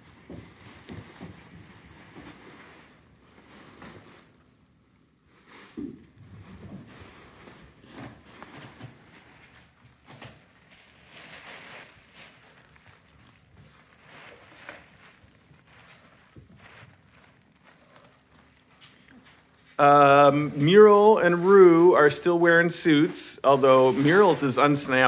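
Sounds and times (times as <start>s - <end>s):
tissue paper rustling: 0.0s - 25.0s.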